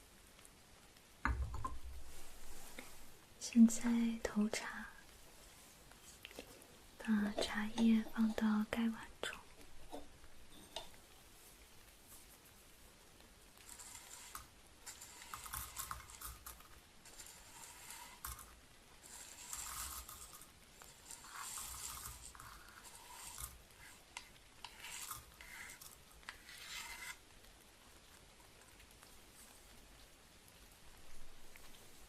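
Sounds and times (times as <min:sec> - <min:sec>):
tea leaves pattering into porcelain: 0:00.3 - 0:32.0.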